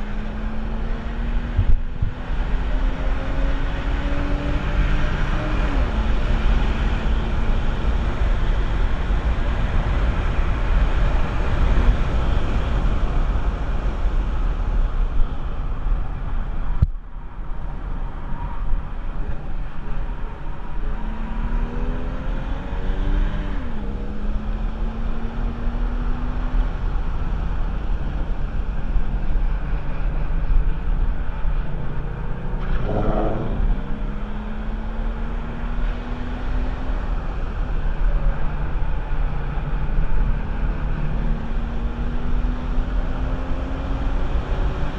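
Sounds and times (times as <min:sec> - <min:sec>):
car engine accelerating: 0:00.0 - 0:16.8, 0:17.7 - 0:44.9
wind and road noise: 0:00.0 - 0:44.9.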